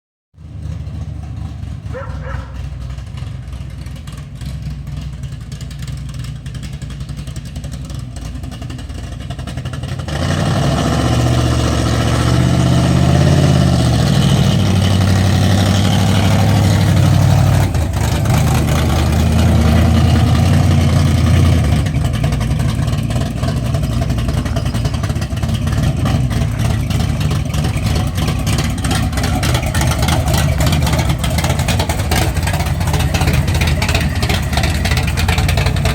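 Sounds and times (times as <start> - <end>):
truck engine running: 0.4 - 35.9.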